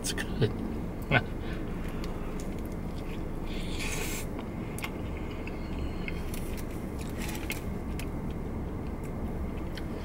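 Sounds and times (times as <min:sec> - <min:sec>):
steady low rumble: 0:00.0 - 0:10.0
man chewing food: 0:01.6 - 0:10.0.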